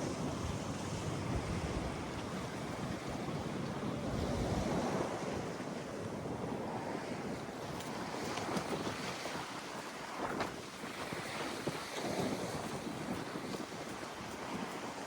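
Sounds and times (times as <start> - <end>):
sea waves breaking on a beach: 0.0 - 15.0
wind buffeting microphone: 0.0 - 15.0.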